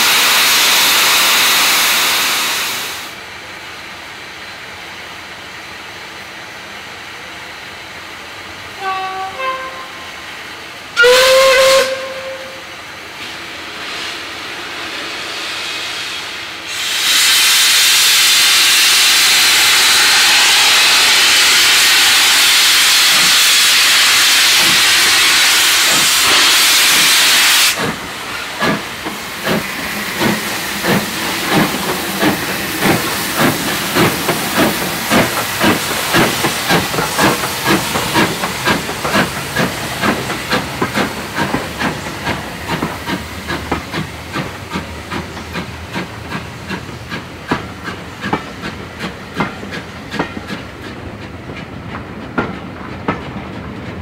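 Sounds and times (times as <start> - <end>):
steam locomotive chuffing: 0.0 - 3.4, 8.2 - 54.0
loud hiss of steam: 0.0 - 51.9.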